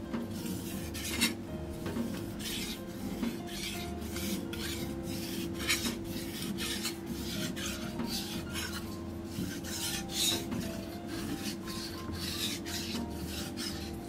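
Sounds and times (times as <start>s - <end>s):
knife rasping on whetstone: 0.3s - 14.0s.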